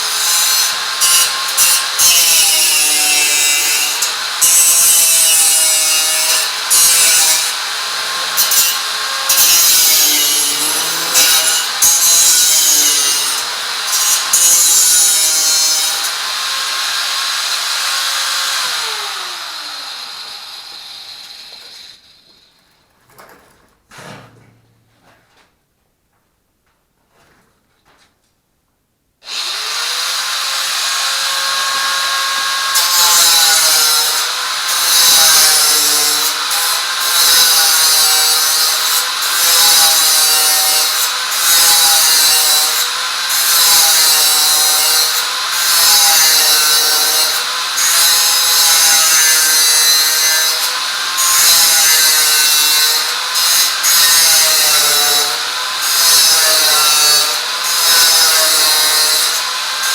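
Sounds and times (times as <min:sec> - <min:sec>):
power tool cutting: 0:00.0 - 0:22.5, 0:29.2 - 0:59.9.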